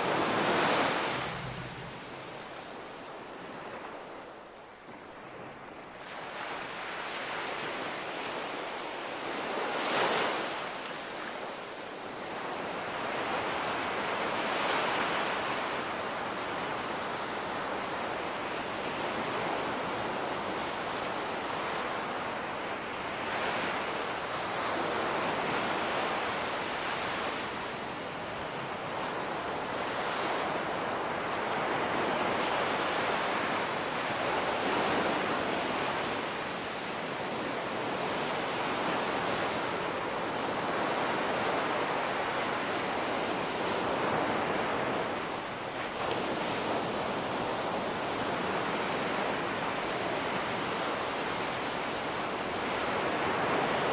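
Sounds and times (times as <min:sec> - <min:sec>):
ocean surf washing on beach: 0:00.0 - 0:53.9.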